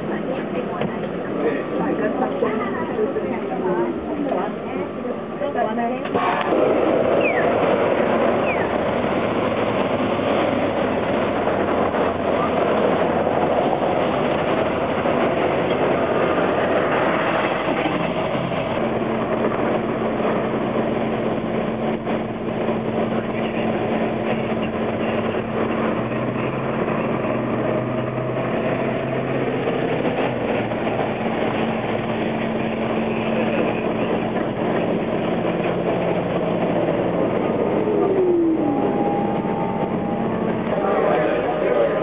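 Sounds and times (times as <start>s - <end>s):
city traffic noise: 0.0s - 42.0s
streetcar running on rails: 0.0s - 42.0s.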